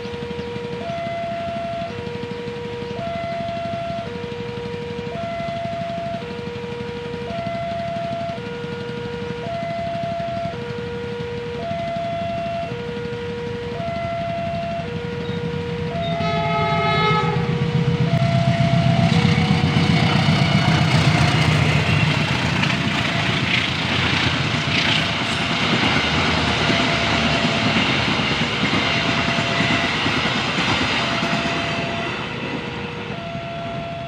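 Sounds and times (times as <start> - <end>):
train wheels rumbling past: 0.0 - 34.0
two-tone level crossing alarm: 0.0 - 34.0
train horn blast: 0.8 - 34.0.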